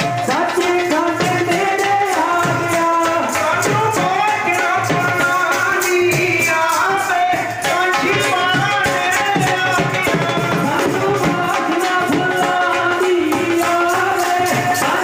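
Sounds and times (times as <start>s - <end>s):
group singing a hymn: 0.0s - 15.0s
jingling hand percussion: 0.0s - 15.0s.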